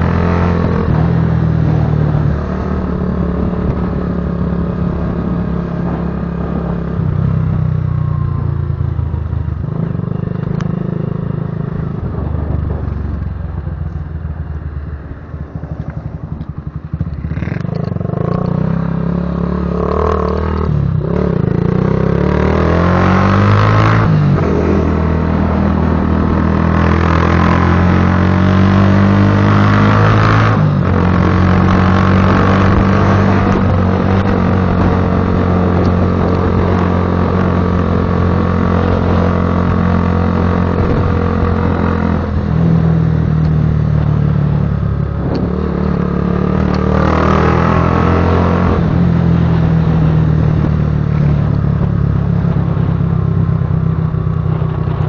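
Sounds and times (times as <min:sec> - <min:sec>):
motorcycle exhaust rumbling: 0:00.0 - 0:55.0.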